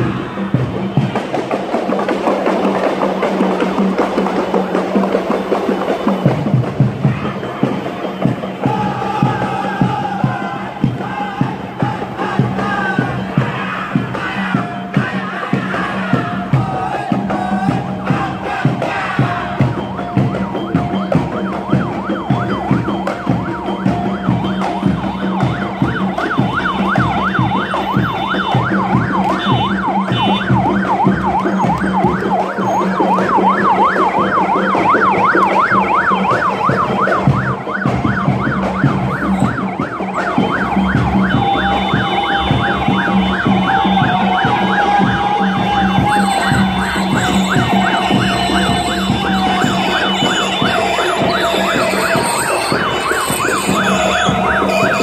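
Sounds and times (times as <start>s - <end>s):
electronic yelp siren: 7.2s - 55.0s.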